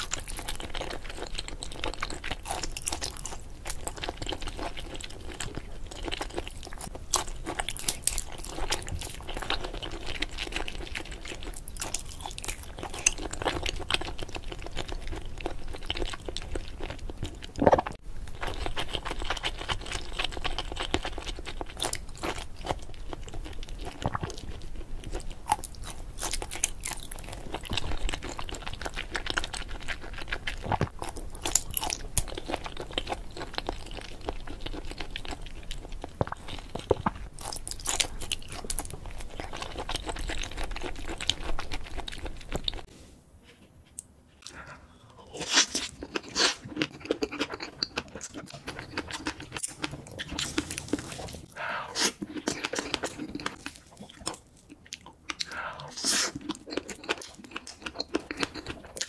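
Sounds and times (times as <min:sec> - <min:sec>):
wet chewing sounds: 0:00.0 - 0:42.9, 0:43.9 - 0:59.0.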